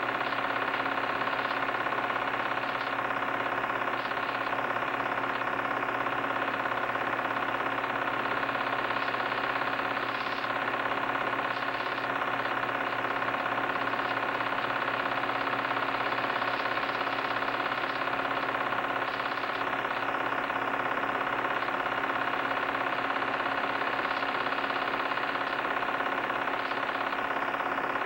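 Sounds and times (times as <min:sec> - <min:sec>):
film projector whirring: 0:00.0 - 0:28.0.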